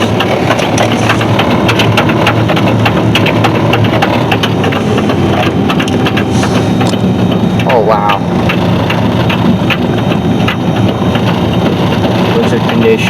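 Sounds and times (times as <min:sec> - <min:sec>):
engine and road drone: 0:00.0 - 0:13.0
tire chains clacking: 0:00.0 - 0:13.0.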